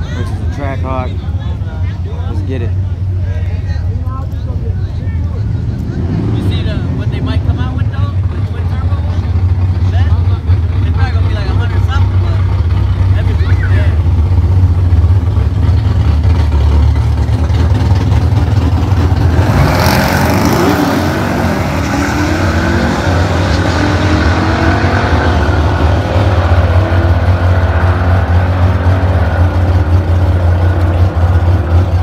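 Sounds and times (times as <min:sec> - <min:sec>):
drag racing cars revving: 0:00.0 - 0:32.0.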